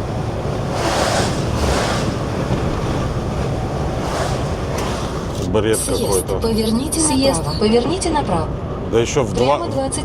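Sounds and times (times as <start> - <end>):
wind gusting against cab: 0.0 - 9.9
truck engine and road rumble: 0.0 - 10.0.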